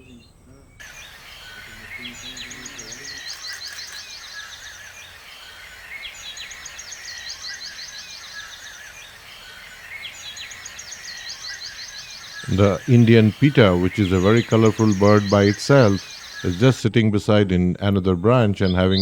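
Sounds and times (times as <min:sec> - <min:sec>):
small bird singing: 0:00.0 - 0:19.0
steady background hiss: 0:00.0 - 0:19.0.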